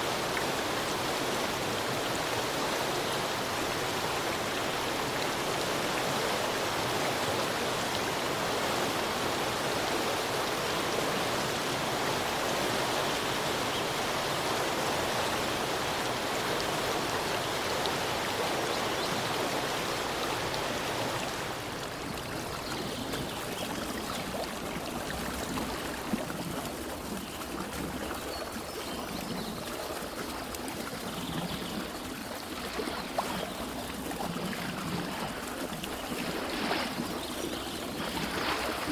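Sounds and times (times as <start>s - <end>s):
flowing stream water: 0.0s - 38.9s.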